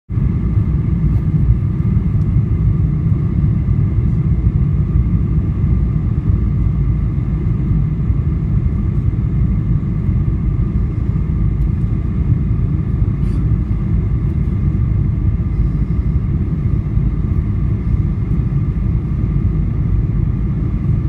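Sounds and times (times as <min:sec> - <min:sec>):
airplane cabin engine rumble: 0:00.1 - 0:21.0
faint high hum: 0:00.1 - 0:21.0.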